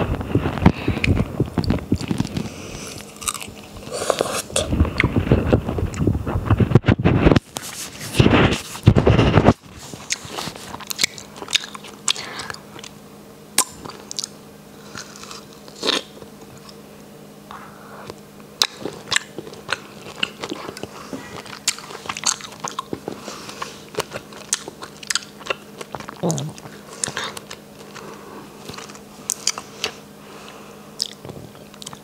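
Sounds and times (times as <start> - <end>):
person biting and chewing fruit: 0.4 - 6.1, 7.0 - 16.8, 17.5 - 32.0.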